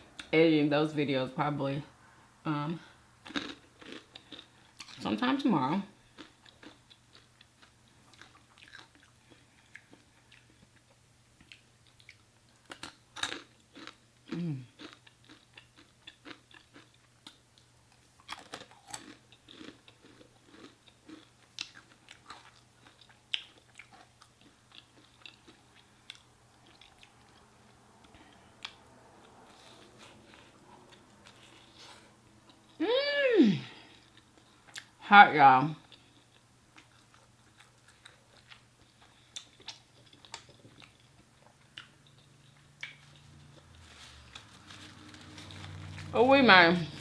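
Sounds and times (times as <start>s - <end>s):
person chewing food: 3.2s - 5.1s, 6.0s - 32.8s, 33.8s - 35.0s, 35.8s - 46.1s.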